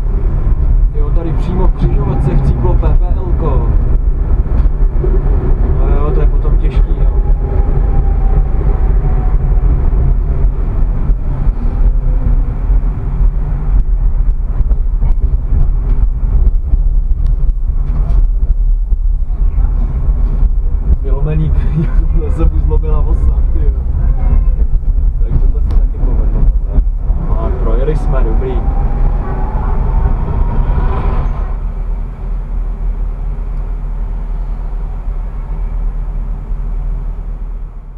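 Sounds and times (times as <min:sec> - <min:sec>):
tram motor whine: 0:00.0 - 0:21.1, 0:22.4 - 0:37.9
tram motors and wheels rumbling: 0:00.0 - 0:37.9.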